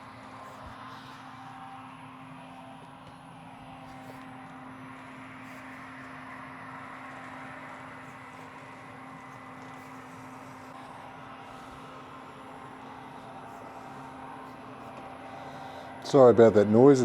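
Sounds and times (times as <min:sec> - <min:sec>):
crop sprayer engine hum: 0:00.0 - 0:17.0.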